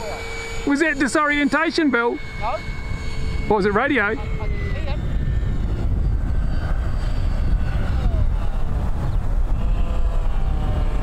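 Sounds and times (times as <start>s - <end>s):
model plane motor whine: 0.0s - 11.0s
wind on microphone: 0.0s - 11.0s.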